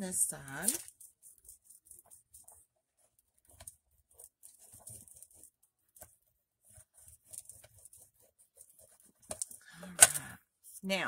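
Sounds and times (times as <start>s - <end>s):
paper rubbing and rustling: 0.0s - 10.9s.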